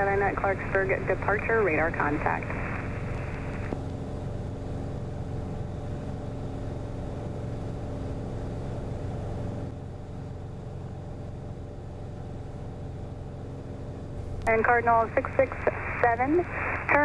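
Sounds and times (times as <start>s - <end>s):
airplane engine and propeller droning: 0.0s - 17.0s.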